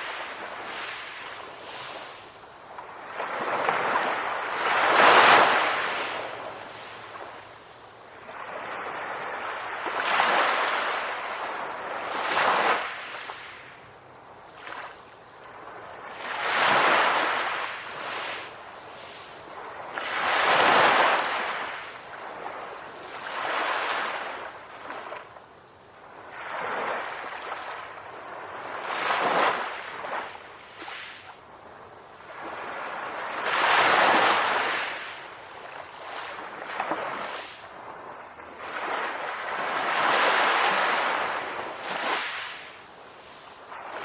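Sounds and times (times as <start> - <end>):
ocean waves washing onto beach: 0.0 - 44.0.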